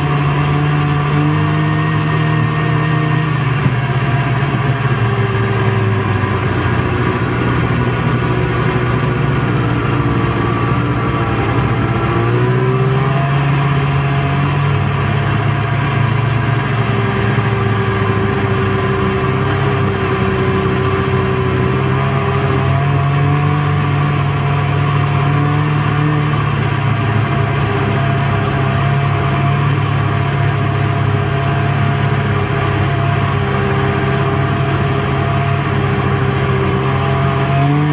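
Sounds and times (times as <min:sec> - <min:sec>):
snowmobile engine running: 0:00.0 - 0:37.9.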